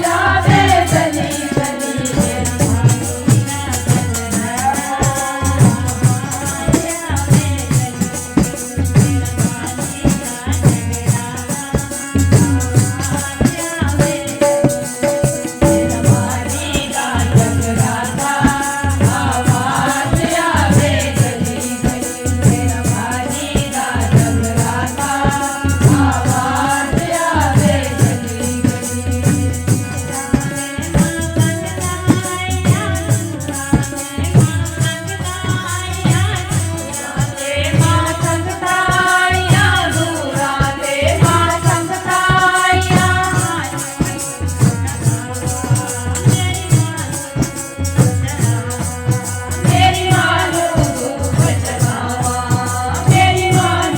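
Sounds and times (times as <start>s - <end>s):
drum beats: 0.0s - 53.9s
person singing devotional song: 0.0s - 53.9s
shaken rattle percussion: 0.0s - 53.9s.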